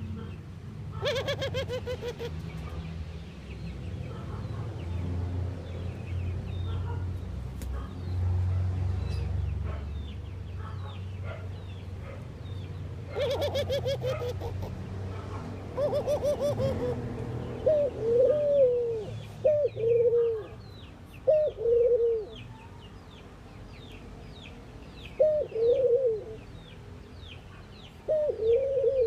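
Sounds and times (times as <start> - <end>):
doves calling: 0.0 - 8.4, 9.0 - 29.0
small birds chirping: 0.0 - 29.0.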